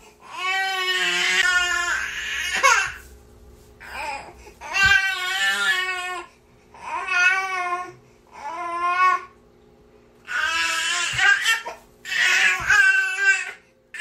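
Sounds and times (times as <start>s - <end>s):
infant crying: 0.2s - 3.0s, 3.8s - 9.3s, 10.3s - 14.0s.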